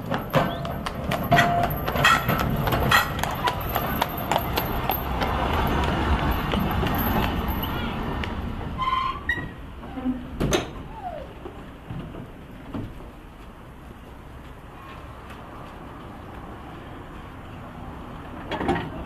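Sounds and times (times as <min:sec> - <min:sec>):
horse hooves clip-clopping on road: 0:00.0 - 0:08.8, 0:11.4 - 0:18.4
tram wheels rumbling on rails: 0:00.0 - 0:17.4.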